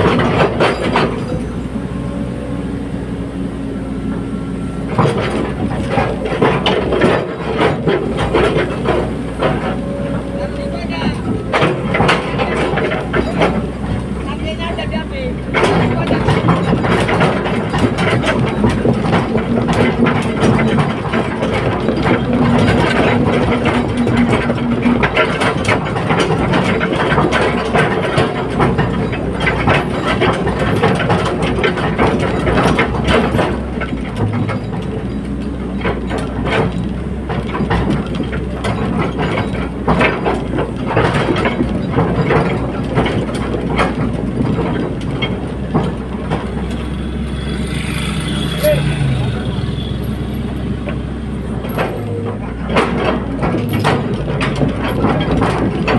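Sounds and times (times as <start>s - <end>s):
diesel engine running: 0.0s - 55.9s
metallic clanks and knocks: 0.0s - 55.9s.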